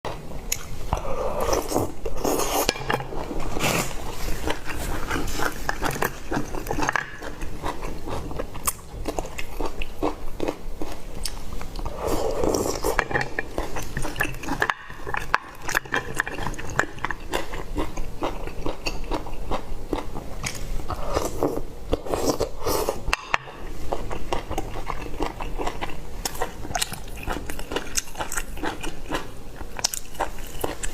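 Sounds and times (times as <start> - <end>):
person chewing crunchy food: 0.5 - 30.9.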